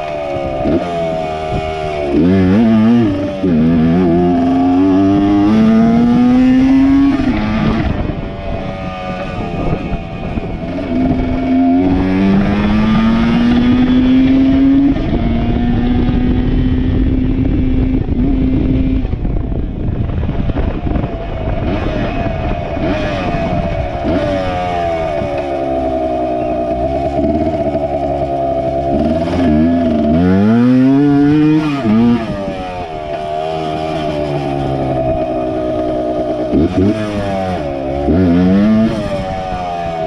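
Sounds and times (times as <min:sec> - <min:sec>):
dirt bike engine revving: 0:00.0 - 0:19.2, 0:21.0 - 0:40.0.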